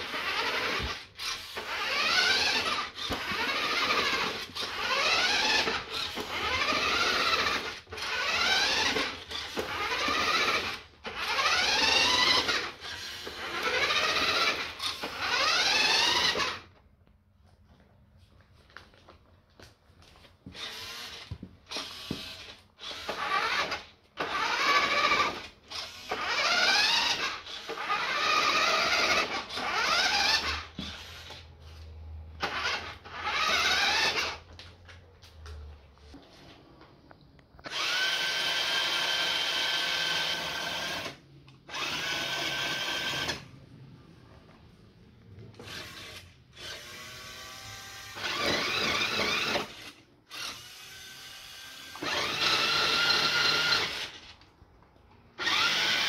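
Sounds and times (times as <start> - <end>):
small electric motor whirring: 0.0 - 16.7, 20.5 - 31.8, 32.4 - 34.4, 37.6 - 43.5, 45.6 - 54.4, 55.4 - 56.0.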